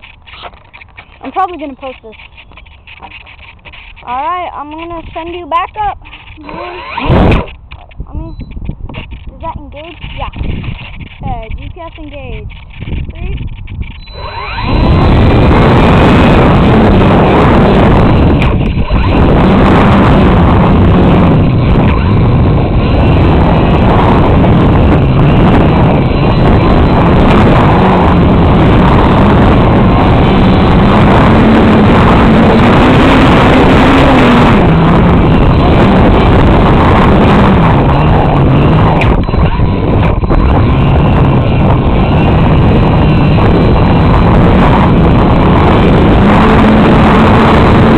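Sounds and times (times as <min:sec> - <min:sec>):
electric motor and propeller droning: 0:00.0 - 0:47.9
wind rush over microphone: 0:00.0 - 0:47.9.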